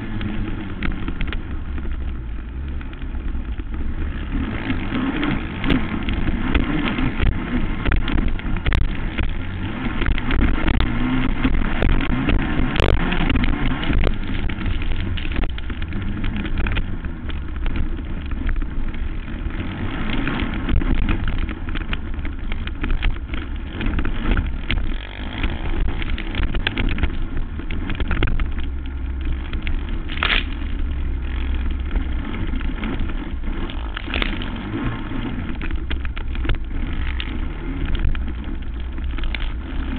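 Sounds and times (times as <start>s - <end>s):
knocks and rattles: 0.0s - 39.9s
quad engine running hard: 0.0s - 39.9s.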